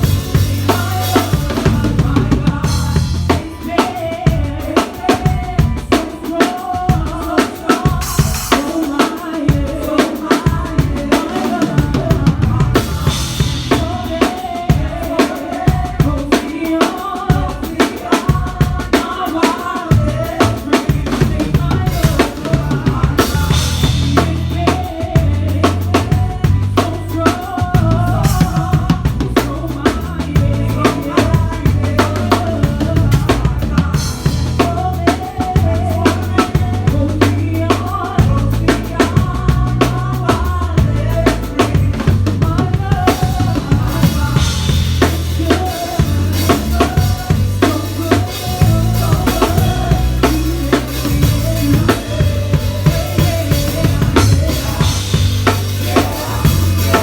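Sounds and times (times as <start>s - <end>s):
bass line: 0.0s - 6.0s, 10.5s - 16.2s, 19.9s - 57.0s.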